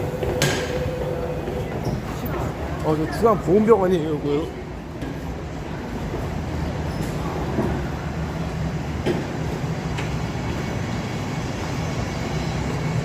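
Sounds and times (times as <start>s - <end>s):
subway station rumble and hum: 0.0s - 13.0s.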